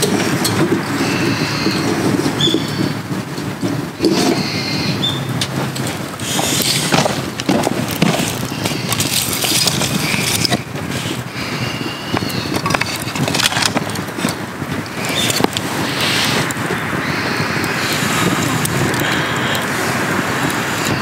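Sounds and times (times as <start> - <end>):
birds chirping: 0.0 - 21.0
wood fire crackling: 0.0 - 21.0.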